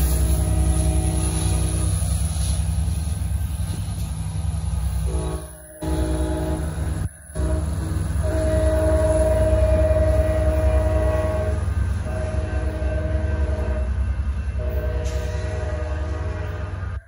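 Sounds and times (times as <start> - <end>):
train horn blasts: 0.0 - 2.1, 5.0 - 17.0
train rumble: 0.0 - 17.0.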